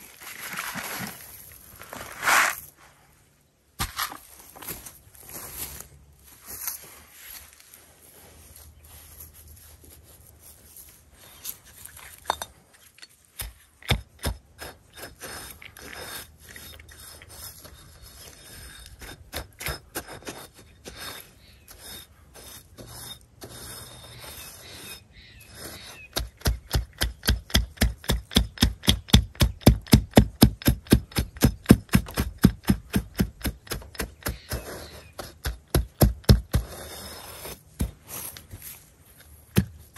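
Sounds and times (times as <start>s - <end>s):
brick scraping on gravel: 0.0s - 2.9s, 3.8s - 39.9s
brick tamping gravel: 0.0s - 2.9s, 3.8s - 39.9s.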